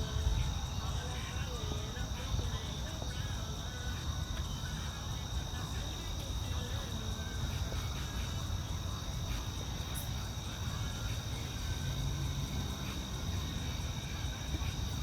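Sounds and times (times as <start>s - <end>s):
constant low rumble: 0.0s - 15.0s
insects trilling: 0.0s - 15.0s.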